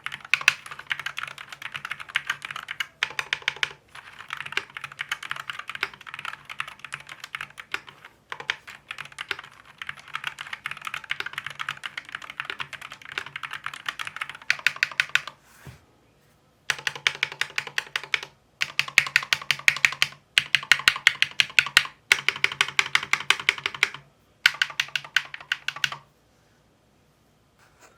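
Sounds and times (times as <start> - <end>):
keyboard typing: 0.0 - 15.4, 16.7 - 26.0.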